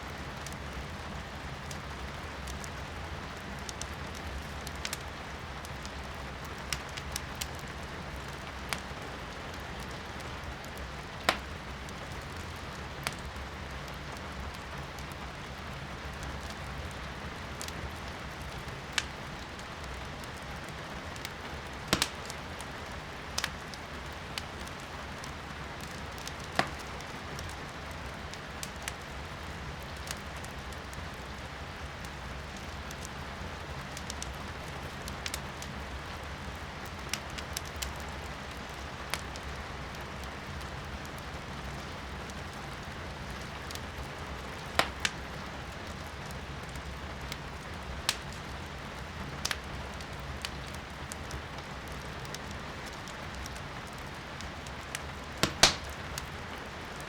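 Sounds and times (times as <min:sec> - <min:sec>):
fire crackling and popping: 0:00.1 - 0:57.0.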